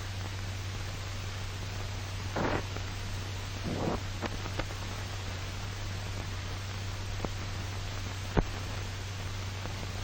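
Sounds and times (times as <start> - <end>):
film soundtrack hiss: 0.0 - 10.0
low hum: 0.0 - 10.0.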